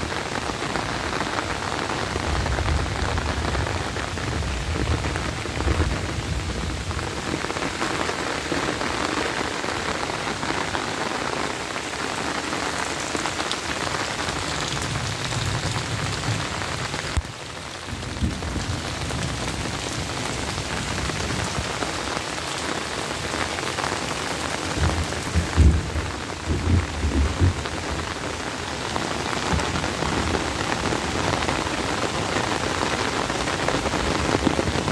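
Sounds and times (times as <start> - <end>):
rain falling on leaves: 0.0 - 34.9.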